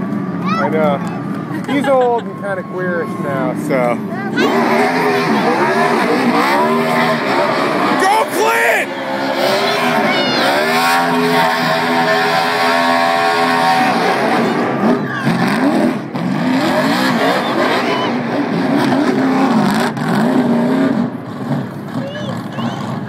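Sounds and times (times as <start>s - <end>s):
car engine revving during burnout: 3.2s - 23.0s.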